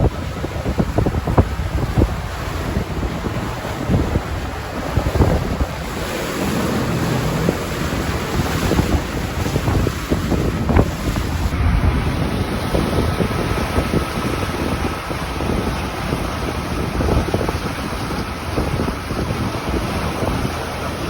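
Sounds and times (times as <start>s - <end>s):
sea water rushing along hull: 0.0s - 21.0s
wind buffeting microphone: 0.0s - 21.0s.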